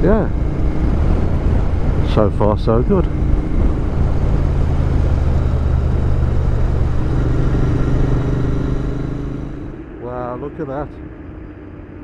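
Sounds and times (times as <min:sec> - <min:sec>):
motorcycle engine running: 0:00.0 - 0:10.4
wind and road noise: 0:00.0 - 0:12.0.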